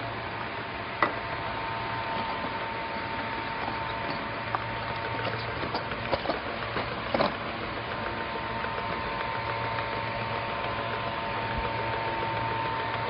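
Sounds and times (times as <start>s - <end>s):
packaging machine whine and hum: 0.0s - 13.0s.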